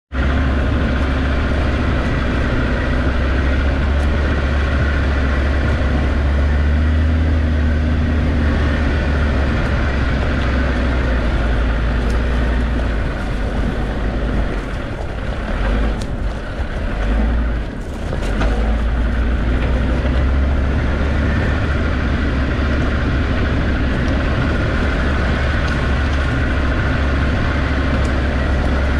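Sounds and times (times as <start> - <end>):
diesel engine rumbling: 0.1 - 28.9
road and drivetrain noise: 0.1 - 28.9.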